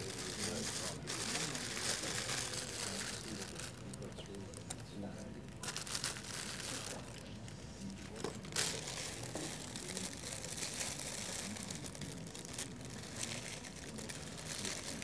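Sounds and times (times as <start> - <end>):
crackling and rustling handling noise: 0.0 - 15.0.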